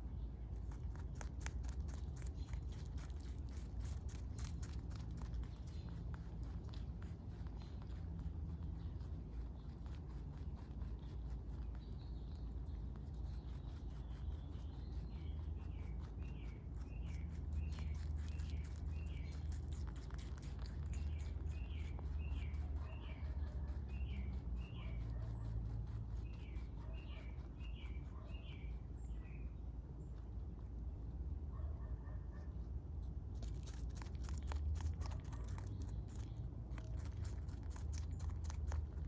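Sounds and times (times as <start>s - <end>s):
bird chirping: 0.0s - 30.2s, 33.4s - 39.0s
steady low rumble: 0.0s - 39.0s.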